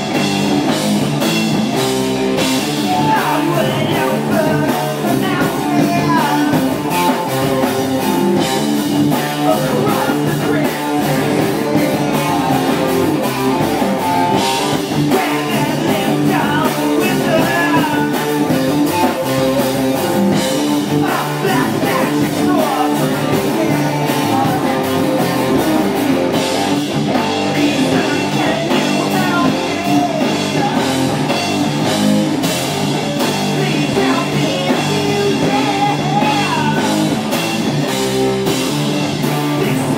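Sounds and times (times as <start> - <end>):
bass guitar: 0.0 - 39.9
drum kit with cymbal crashes: 0.0 - 39.9
electric guitars: 0.0 - 39.9.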